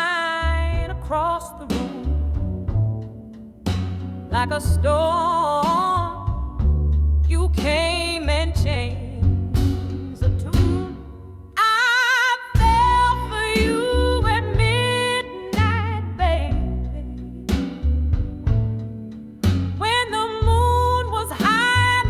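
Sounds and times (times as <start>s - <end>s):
slow blues ballad: 0.0s - 22.0s.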